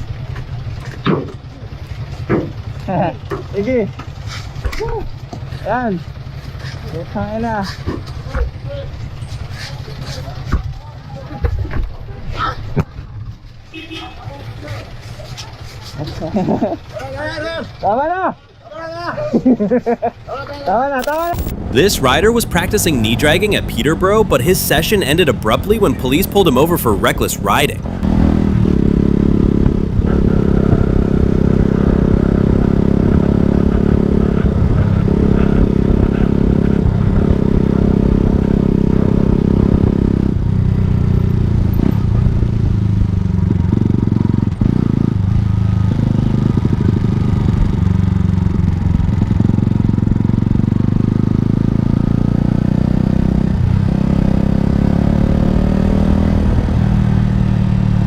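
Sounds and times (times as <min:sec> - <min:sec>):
motorcycle engine running: 0:00.0 - 0:11.5, 0:20.7 - 0:58.0.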